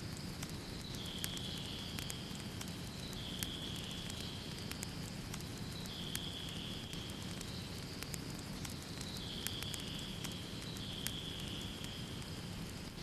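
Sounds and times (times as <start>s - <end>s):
low rumble of flames: 0.0s - 13.0s
wood fire crackling and popping: 0.0s - 13.0s.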